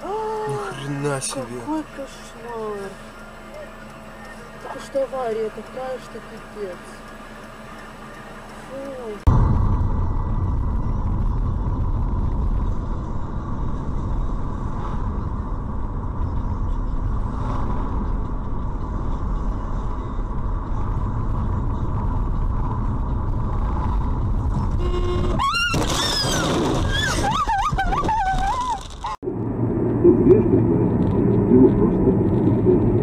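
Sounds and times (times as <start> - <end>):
car cabin road rumble: 0.0 - 33.0.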